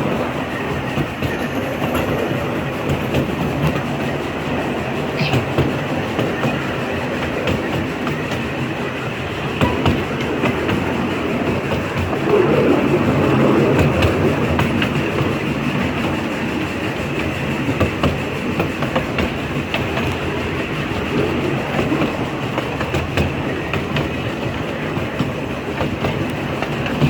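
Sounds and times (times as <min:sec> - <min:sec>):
train rumbling on track: 0:00.0 - 0:27.0
wheels clicking over rail joints: 0:00.0 - 0:27.0.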